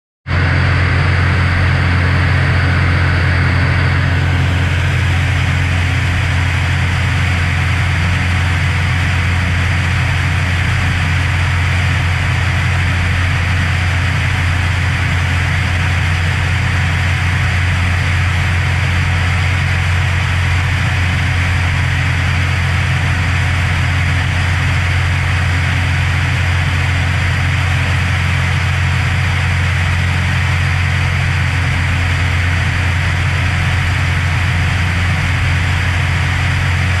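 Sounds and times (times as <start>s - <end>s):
propeller plane engine droning: 0.3s - 37.0s
rush of airflow: 0.3s - 37.0s.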